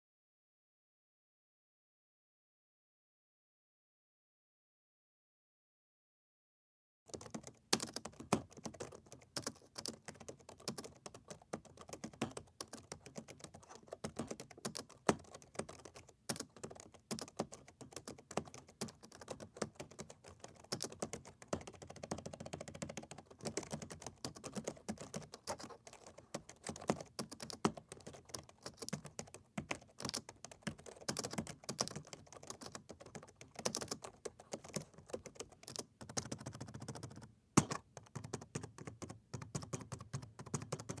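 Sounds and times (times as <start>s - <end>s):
laptop keyboard typing: 7.1s - 41.0s.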